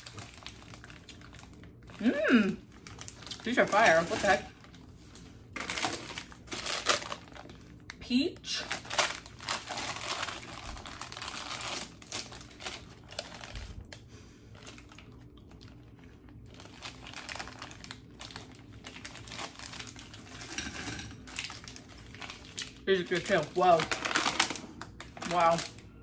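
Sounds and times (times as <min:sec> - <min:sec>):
plastic candy bag crinkling: 0:00.0 - 0:26.0.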